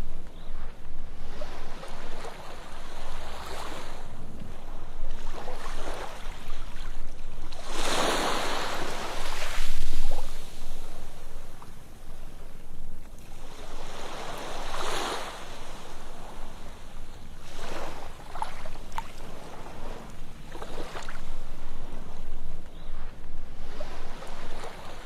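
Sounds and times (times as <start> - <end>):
ocean waves on sandy beach: 0.0 - 25.0.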